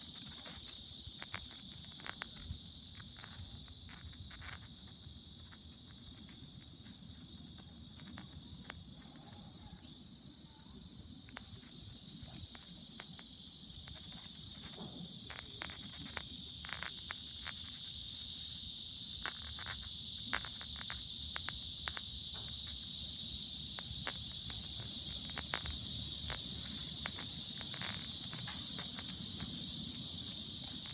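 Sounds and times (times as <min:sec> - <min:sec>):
high-pitched insect drone: 0:00.0 - 0:30.9.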